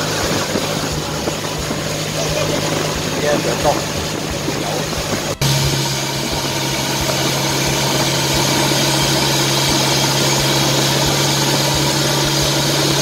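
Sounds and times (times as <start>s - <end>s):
motorboat engine running: 0.0s - 13.0s
rush of water noise: 0.0s - 13.0s.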